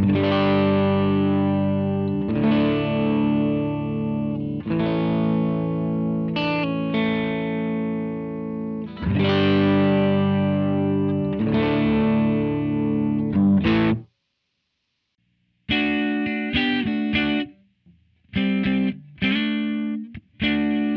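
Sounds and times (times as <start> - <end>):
electric guitar chords: 0.0 - 14.1, 15.6 - 20.9.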